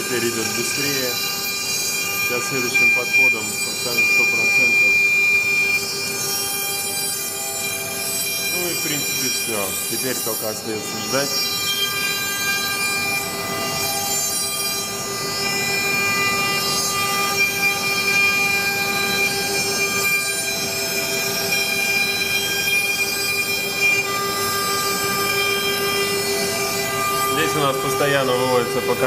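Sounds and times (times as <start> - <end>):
router bit cutting wood: 0.0 - 29.0
router spindle high whine: 0.0 - 29.0.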